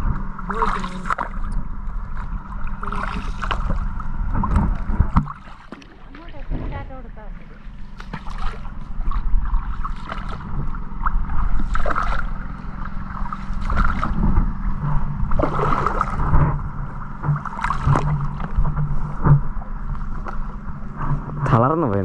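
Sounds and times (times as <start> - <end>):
steady low hum: 0.0 - 22.0
paddle splashing water: 0.4 - 21.2.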